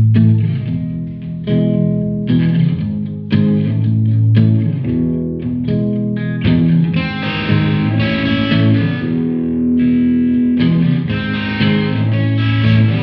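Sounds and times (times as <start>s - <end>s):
electric guitars playing chords: 0.0s - 13.0s.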